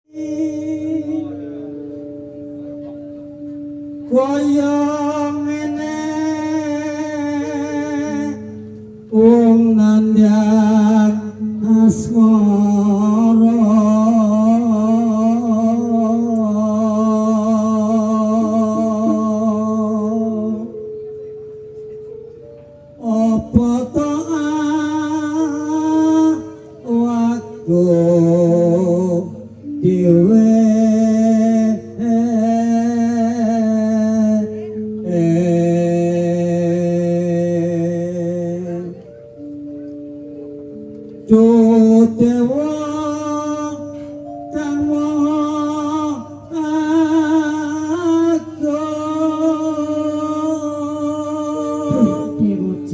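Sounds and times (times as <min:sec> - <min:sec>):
person singing long note: 0:00.0 - 0:52.9
electronic keyboard music: 0:00.1 - 0:52.9
short plucked notes: 0:00.1 - 0:52.9
sustained accompaniment: 0:00.1 - 0:52.9.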